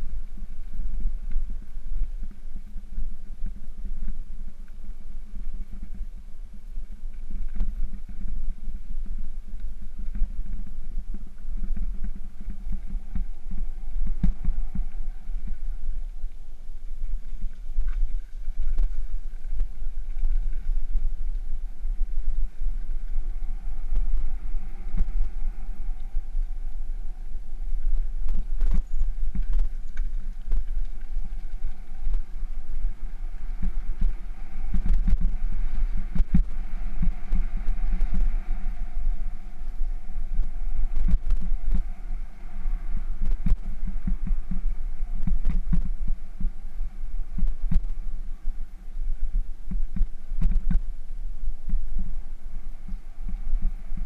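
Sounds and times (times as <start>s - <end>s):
bicycle rumbling on gravel: 0.0s - 54.0s.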